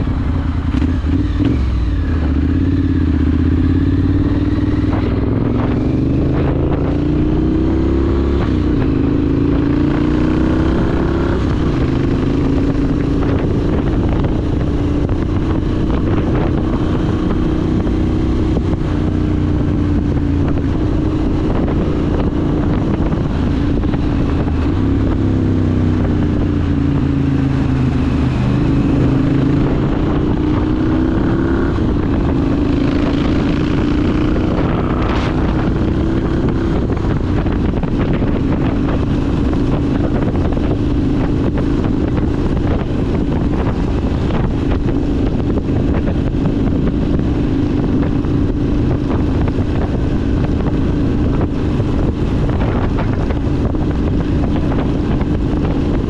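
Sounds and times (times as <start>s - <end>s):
motorcycle engine: 0.0s - 56.0s
wind noise on microphone: 0.0s - 56.0s.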